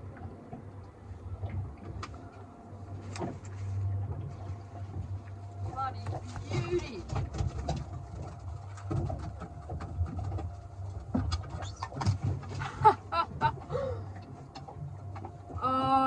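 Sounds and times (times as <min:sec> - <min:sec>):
net and fish clattering on boat: 0:00.0 - 0:16.0
steady low hum: 0:00.0 - 0:16.0.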